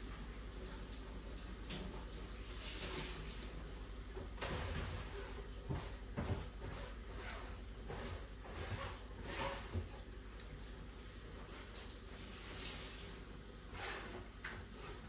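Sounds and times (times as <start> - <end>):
tap water running: 0.0 - 15.0.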